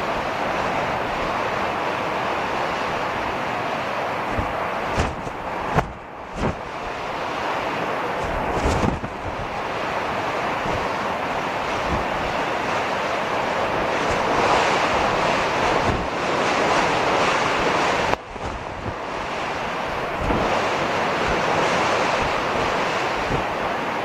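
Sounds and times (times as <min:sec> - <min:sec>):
heavy surf rushing: 0:00.0 - 0:24.0
wind buffeting microphone: 0:00.0 - 0:24.0.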